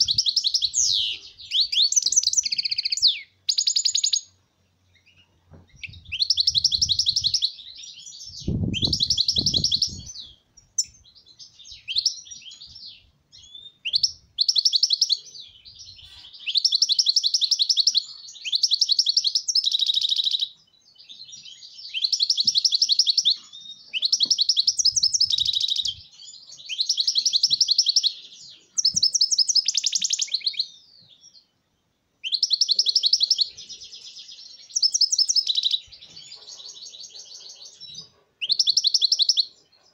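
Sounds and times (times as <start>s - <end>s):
goldfinch twittering song: 0.0s - 31.5s, 32.2s - 39.9s.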